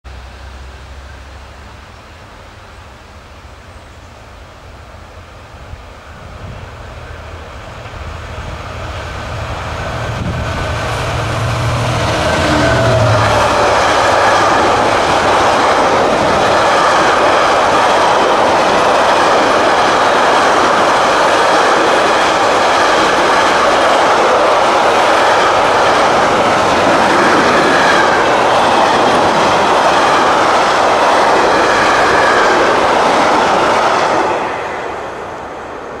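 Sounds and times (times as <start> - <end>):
diesel locomotive engine drone: 0.1 - 36.0.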